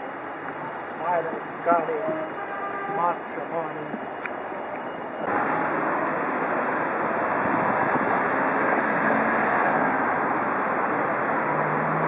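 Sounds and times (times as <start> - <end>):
vehicle travel noise: 0.0 - 12.0.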